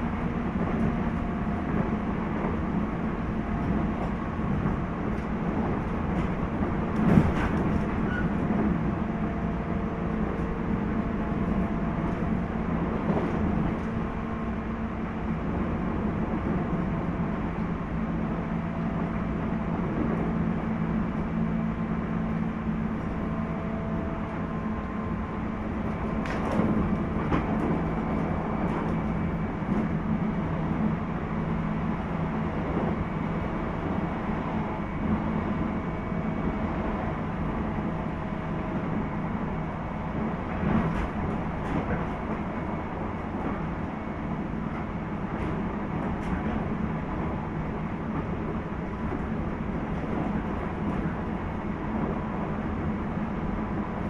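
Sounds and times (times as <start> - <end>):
train interior rumble and hum: 0.0 - 54.0.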